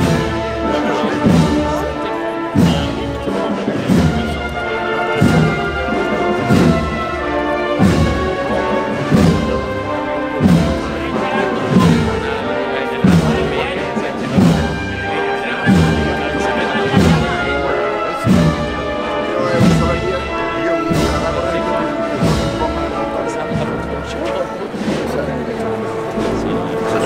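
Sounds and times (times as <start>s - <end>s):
bass drum beats: 0.0s - 15.1s, 18.2s - 26.6s
brass band playing a march: 0.0s - 27.0s.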